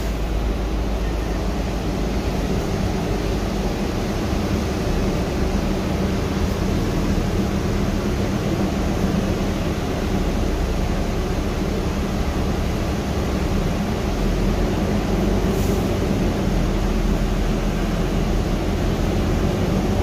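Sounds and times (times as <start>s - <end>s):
low drivetrain hum: 0.0s - 20.0s.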